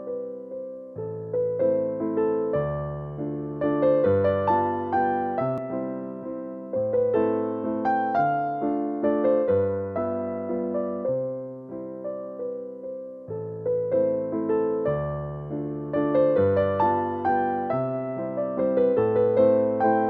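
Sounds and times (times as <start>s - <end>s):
electric piano music: 0.0s - 20.0s.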